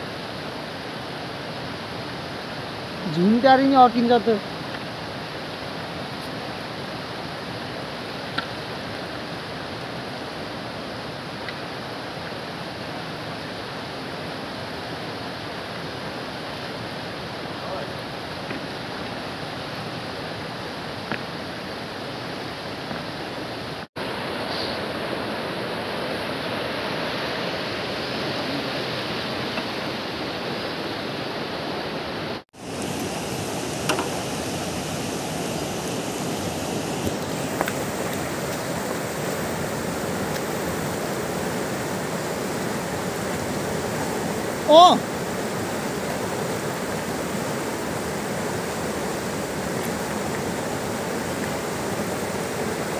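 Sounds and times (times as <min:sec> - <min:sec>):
river rushing over boulders: 0:00.0 - 0:52.9.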